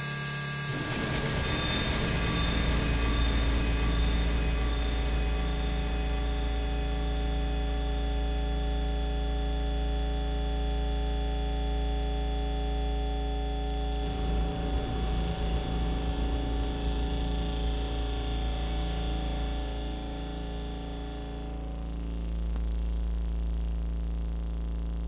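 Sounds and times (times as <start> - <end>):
hum of held tones: 0.0 - 25.0
low rumble: 0.7 - 9.3, 12.2 - 24.2.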